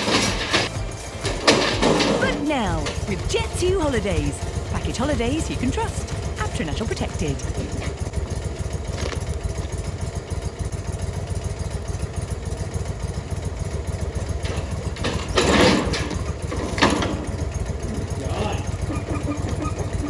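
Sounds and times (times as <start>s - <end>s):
mower engine pulsing: 0.0s - 20.0s.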